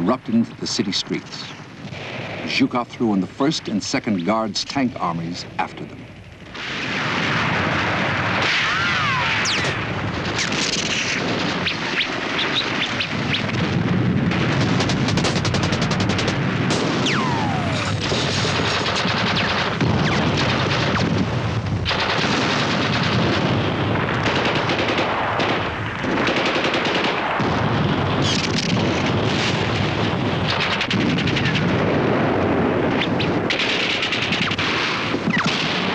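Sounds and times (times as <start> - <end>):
machine-gun fire: 6.3 - 35.9.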